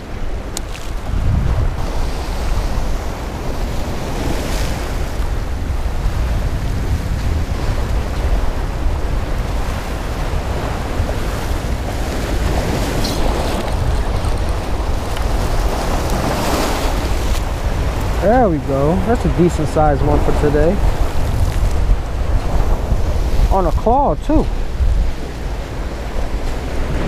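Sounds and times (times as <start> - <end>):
ocean waves breaking on rocks: 0.0 - 27.0
wind buffeting microphone: 0.0 - 27.0.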